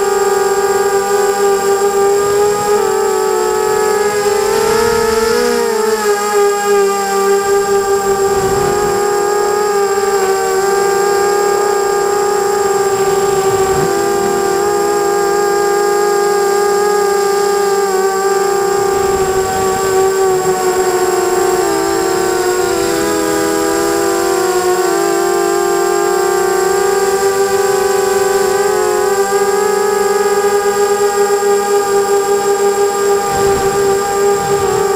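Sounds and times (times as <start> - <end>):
quadcopter propellers whining: 0.0 - 34.9.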